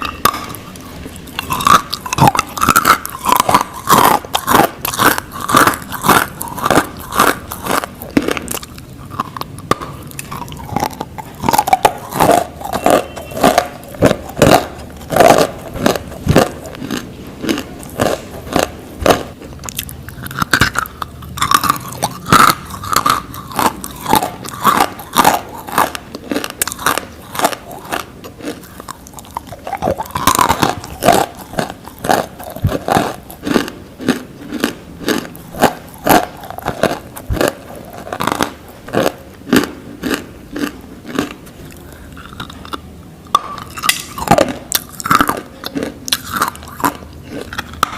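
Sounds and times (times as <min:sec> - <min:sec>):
clay being chewed: 0:00.0 - 0:47.9.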